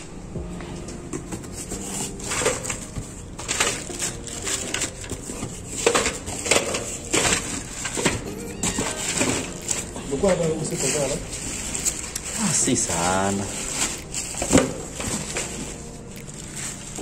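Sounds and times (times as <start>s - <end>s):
plastic bags crinkling: 1.3s - 17.0s.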